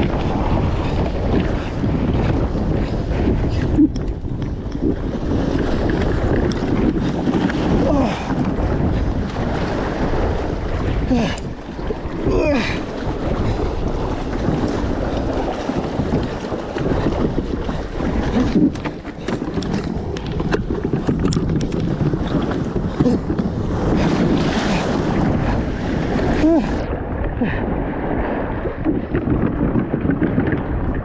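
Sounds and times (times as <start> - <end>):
waves slapping against kayak: 0.0 - 31.0
wind buffeting microphone: 0.0 - 31.0.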